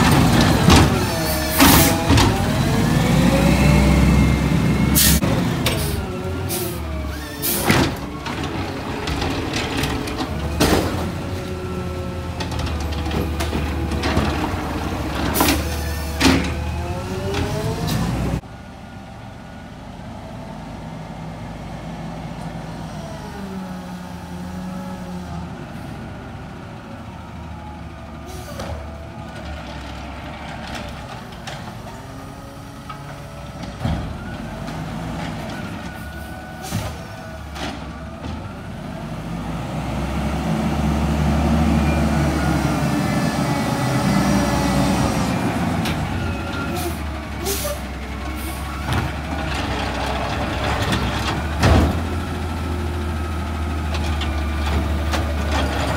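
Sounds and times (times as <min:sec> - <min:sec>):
truck engine: 0:00.0 - 0:55.9.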